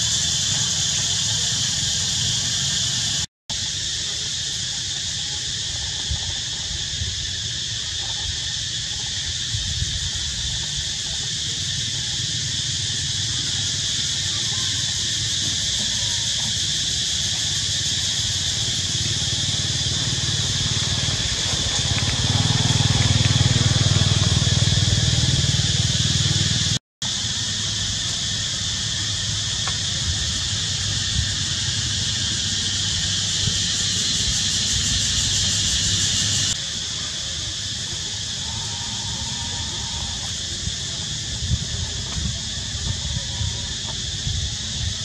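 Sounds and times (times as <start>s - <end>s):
high-pitched insect drone: 0.0s - 45.0s.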